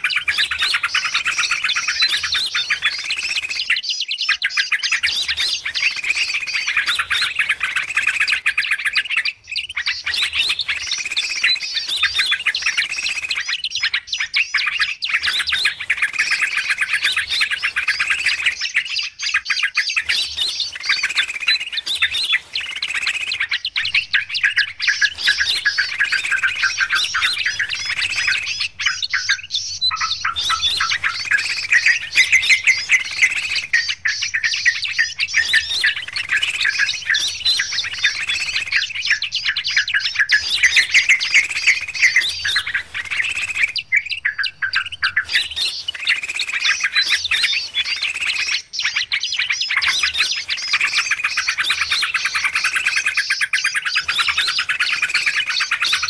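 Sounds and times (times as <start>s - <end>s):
small birds chirping and chattering: 0.0s - 56.0s.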